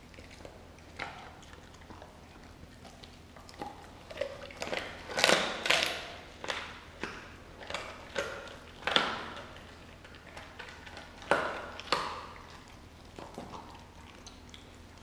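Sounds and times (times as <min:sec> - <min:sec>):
dog biting and tearing meat: 0:00.0 - 0:15.0.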